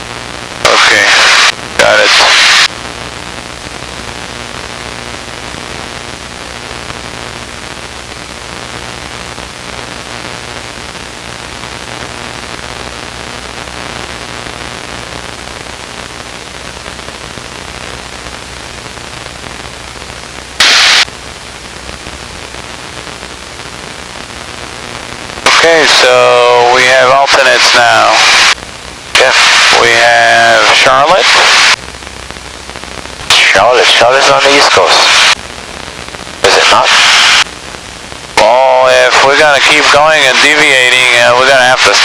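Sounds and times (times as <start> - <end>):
loud burst of static: 0.0 - 42.0
static hiss: 0.0 - 42.0.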